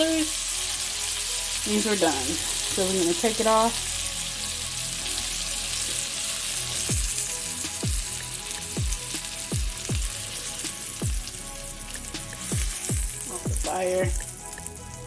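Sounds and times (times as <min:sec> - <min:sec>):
background music with low beat: 0:00.0 - 0:15.0
chicken sizzling in oil: 0:00.0 - 0:15.0.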